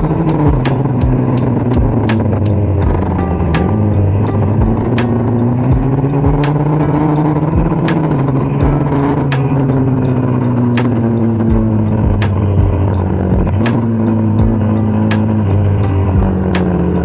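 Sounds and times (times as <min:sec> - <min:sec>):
background music: 0:00.0 - 0:17.0
motorcycle engine running: 0:00.0 - 0:17.0.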